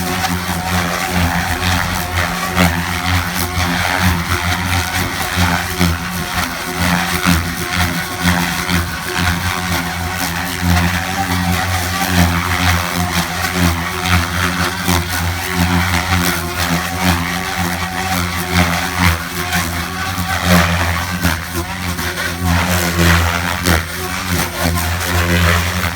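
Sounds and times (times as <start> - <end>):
rc helicopter humming: 0.0 - 25.9.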